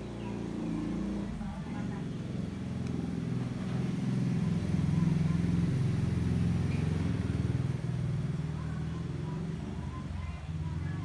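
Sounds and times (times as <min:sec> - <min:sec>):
engine running with pulsing hum: 0:00.0 - 0:11.0.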